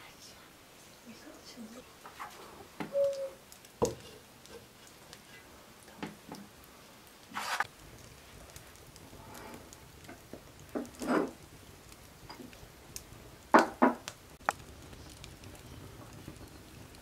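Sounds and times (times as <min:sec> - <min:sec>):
wood fire crackling: 0:00.0 - 0:17.0
sharp pops from fire: 0:02.0 - 0:17.0.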